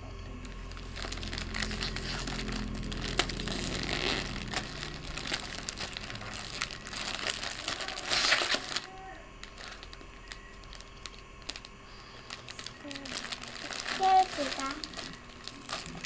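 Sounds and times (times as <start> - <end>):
plastic packaging crinkling: 0.3 - 16.0.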